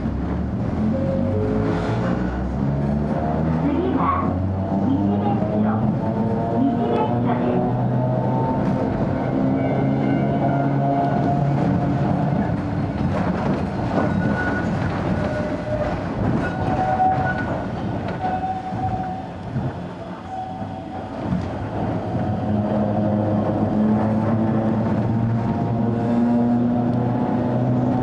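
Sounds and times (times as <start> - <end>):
train wheels clattering on rail: 0.0 - 28.0.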